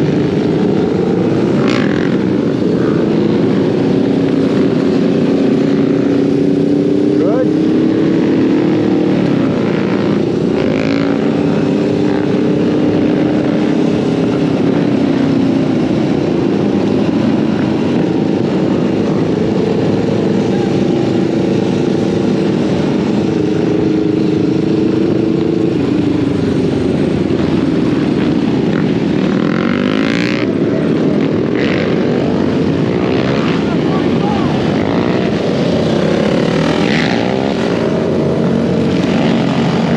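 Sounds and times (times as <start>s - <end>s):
off-road motorbike engine: 0.0s - 39.9s
wind and road noise: 0.0s - 39.9s.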